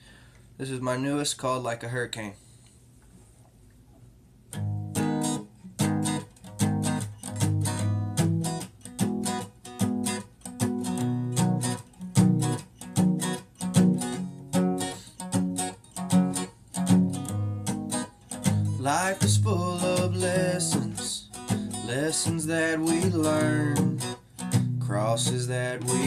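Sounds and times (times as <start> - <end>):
acoustic guitar strumming: 4.6 - 26.0.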